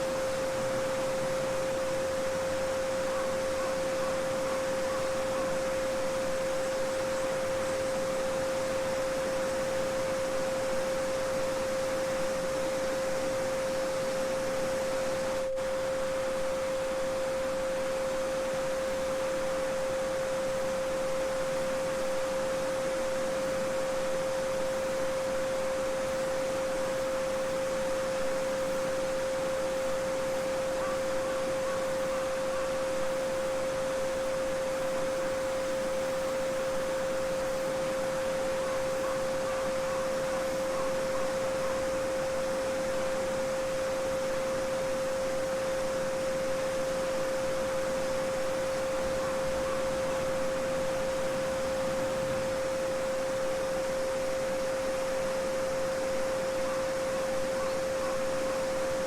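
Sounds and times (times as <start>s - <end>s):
steady sine tone: 0.0s - 59.0s.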